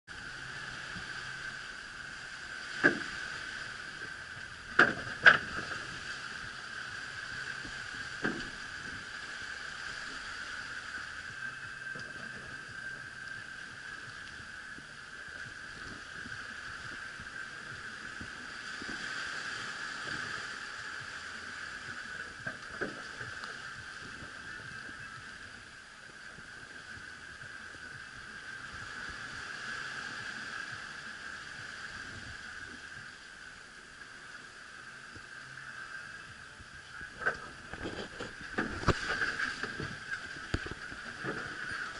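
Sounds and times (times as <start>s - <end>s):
gale-force wind: 0.0s - 41.9s
breaking sea: 0.1s - 41.9s.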